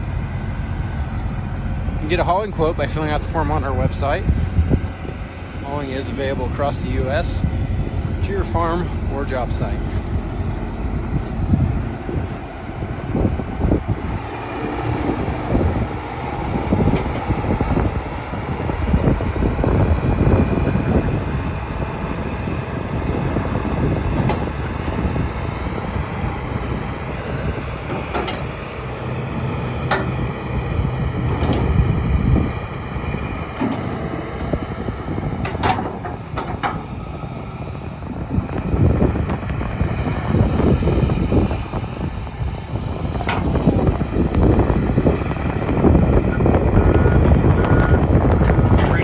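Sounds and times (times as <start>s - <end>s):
excavator diesel engine rumbling: 0.0s - 49.0s.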